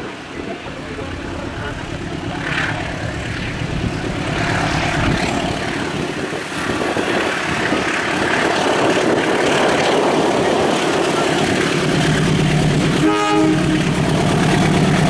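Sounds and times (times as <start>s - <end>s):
locomotive engine droning: 0.0s - 15.0s.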